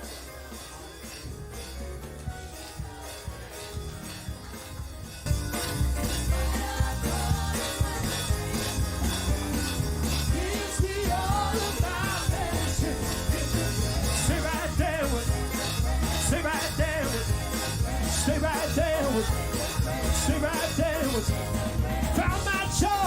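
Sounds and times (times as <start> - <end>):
band playing with bass: 0.0 - 23.0
people singing: 0.0 - 23.0.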